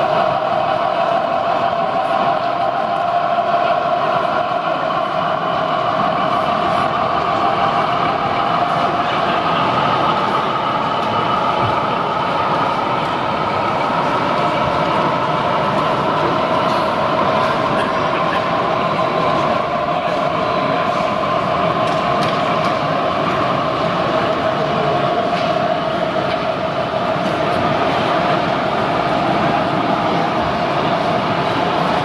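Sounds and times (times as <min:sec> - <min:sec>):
model train wheels on rails: 0:00.0 - 0:32.0.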